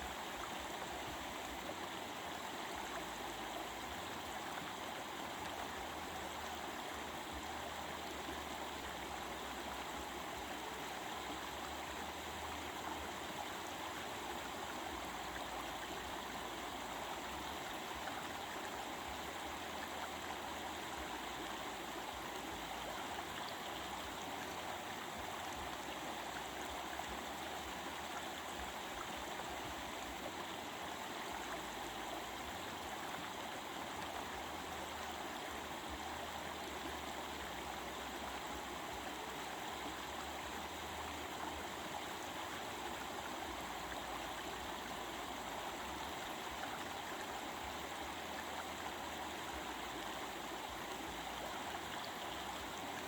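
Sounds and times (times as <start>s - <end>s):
stream of running water: 0.0s - 53.0s.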